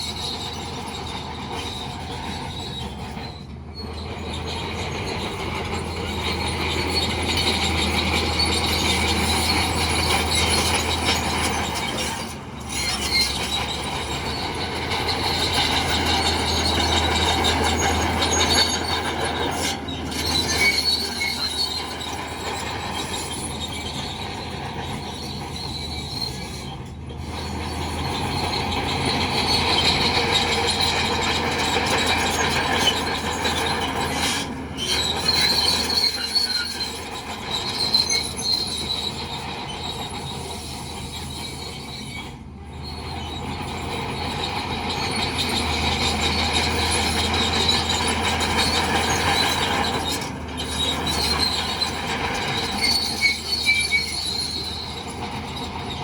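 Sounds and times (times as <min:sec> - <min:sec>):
diesel engine running: 0:00.0 - 0:56.0
steel tracks squealing and clattering: 0:00.0 - 0:56.0.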